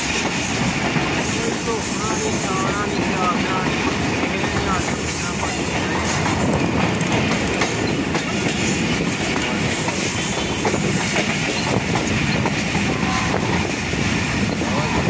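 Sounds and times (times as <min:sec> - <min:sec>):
train rolling noise: 0:00.0 - 0:15.0
train wheels clattering: 0:00.0 - 0:15.0.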